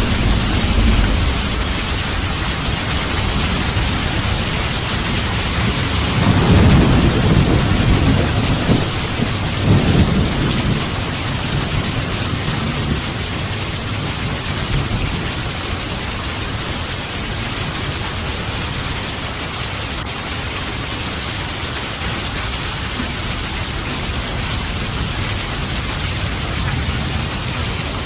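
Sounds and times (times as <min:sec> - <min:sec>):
thunder rumbling: 0:00.0 - 0:19.0, 0:21.9 - 0:28.0
heavy rain: 0:00.0 - 0:28.0.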